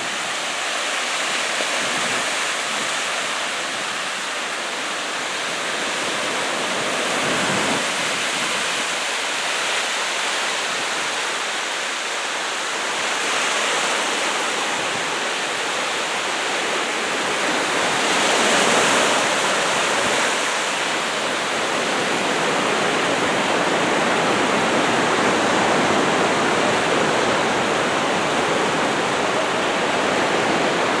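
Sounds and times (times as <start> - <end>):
surf breaking on beach: 0.0 - 31.0.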